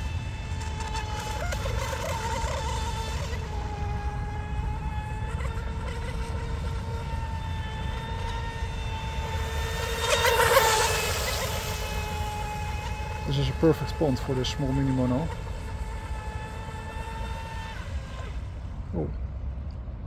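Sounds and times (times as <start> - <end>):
rc boat motor whine: 0.0 - 19.8.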